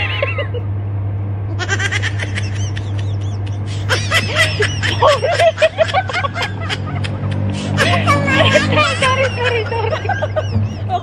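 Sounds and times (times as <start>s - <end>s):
women laughing and giggling: 0.0s - 0.7s, 1.6s - 11.0s
steady low hum: 0.0s - 11.0s.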